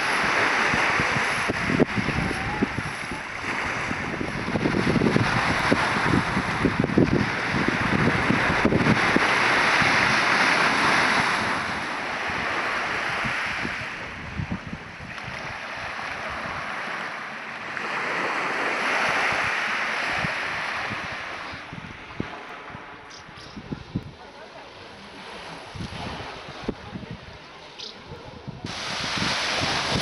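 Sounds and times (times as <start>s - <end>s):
wind buffeting microphone: 0.0s - 17.0s, 17.8s - 30.0s
sea surf washing: 0.0s - 30.0s.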